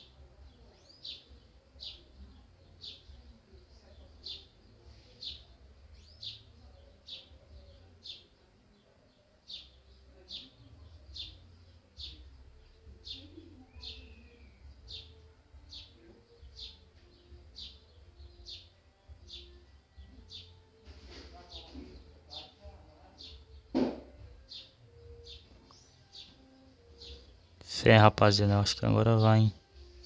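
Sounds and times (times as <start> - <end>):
bird chirping faintly: 0.0 - 30.0.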